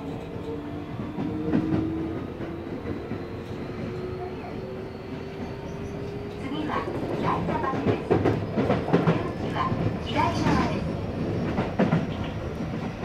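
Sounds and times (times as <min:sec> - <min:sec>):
wheels rumbling on rails: 0:00.0 - 0:13.0.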